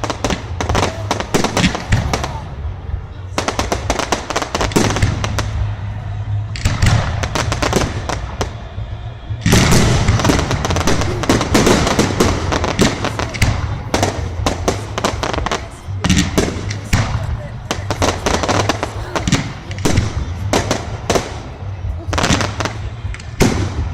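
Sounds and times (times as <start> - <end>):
fireworks cracking and banging: 0.0 - 23.9.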